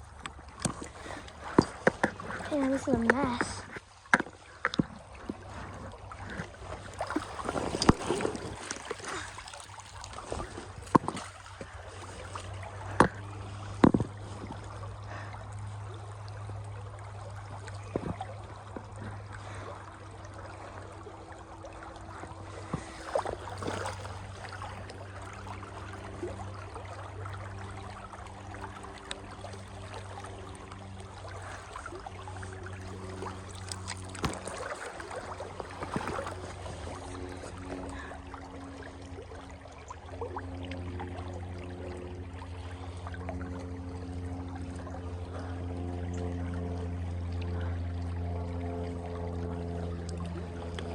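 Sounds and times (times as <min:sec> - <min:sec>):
stream water running: 0:00.0 - 0:50.9.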